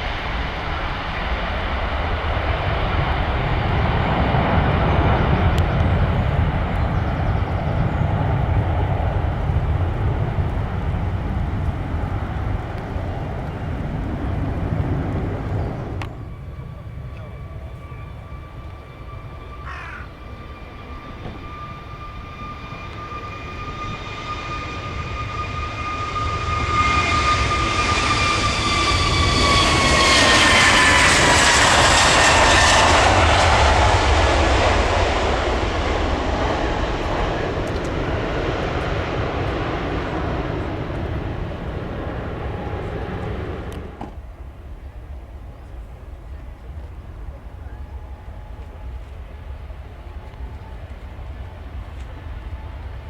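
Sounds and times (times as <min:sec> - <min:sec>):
jet airliner taking off: 0:00.0 - 0:53.0.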